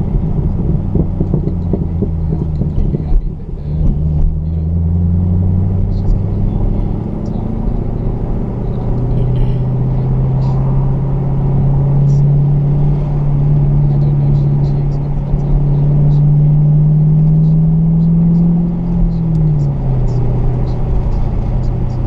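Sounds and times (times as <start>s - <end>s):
car engine drone: 0.0s - 22.0s
road noise: 0.0s - 22.0s.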